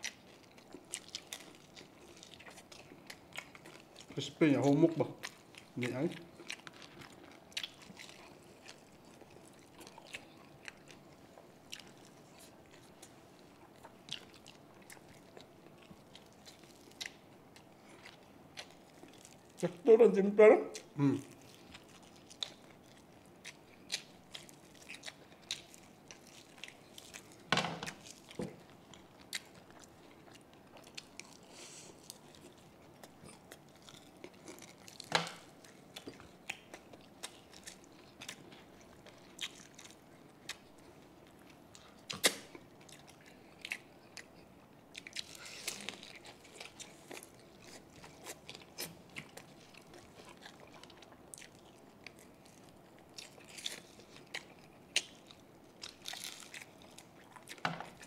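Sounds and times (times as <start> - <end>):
people chewing crispy pork: 0.0 - 20.0, 20.7 - 58.0.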